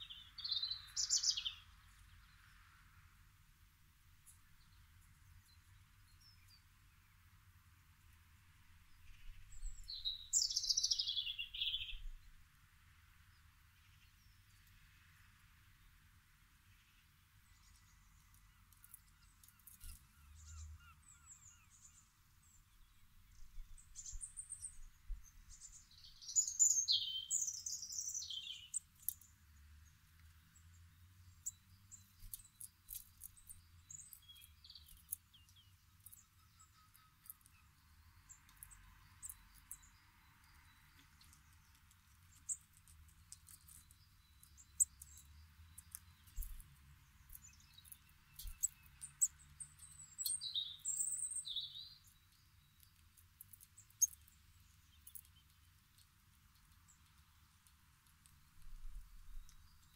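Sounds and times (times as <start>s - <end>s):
faint bird chirps and ticks: 0.0s - 59.9s.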